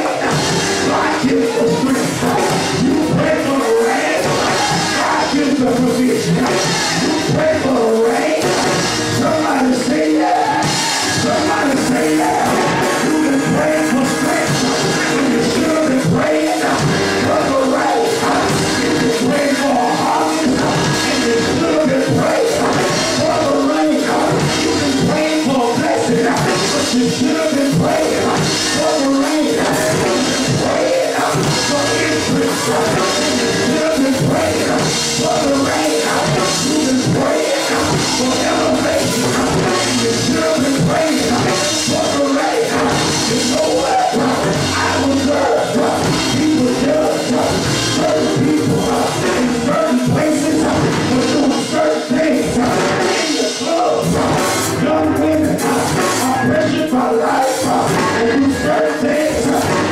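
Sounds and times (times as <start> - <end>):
drum kit beat: 0.0 - 59.9
live gospel band: 0.0 - 59.9
man singing into microphone: 0.0 - 59.9.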